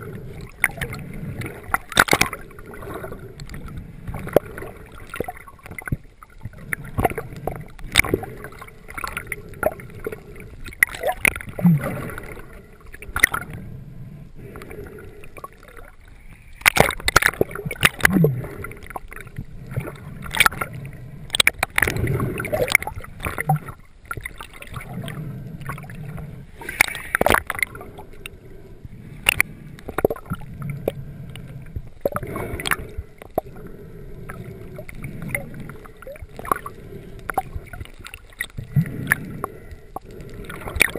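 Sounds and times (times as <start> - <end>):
water sloshing and splashing: 0.0 - 40.9.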